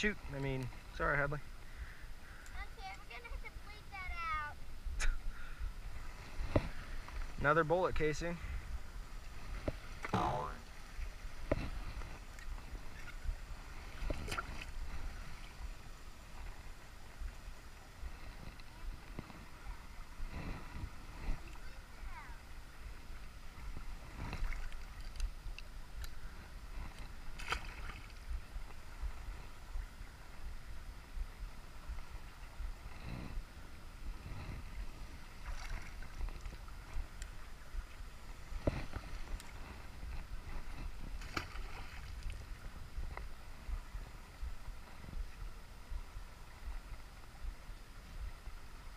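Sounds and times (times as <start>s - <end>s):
rumble of moving water: 0.0s - 48.9s
wind on microphone: 0.0s - 48.9s.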